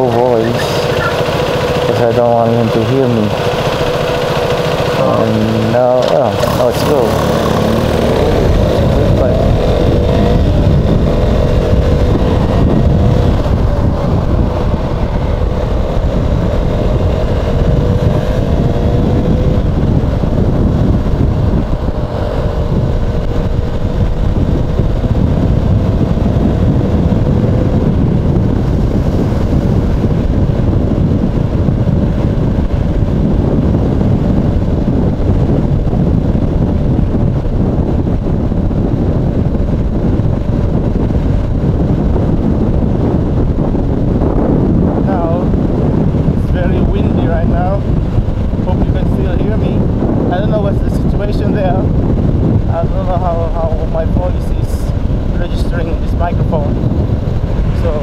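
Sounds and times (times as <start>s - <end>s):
motorcycle engine accelerating: 0.0s - 58.0s
wind rumble on microphone: 0.0s - 58.0s.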